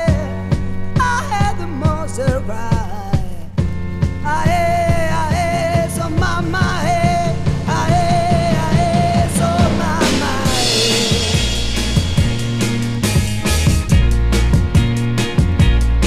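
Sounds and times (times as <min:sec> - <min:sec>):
drum and bass beat: 0:00.0 - 0:16.0.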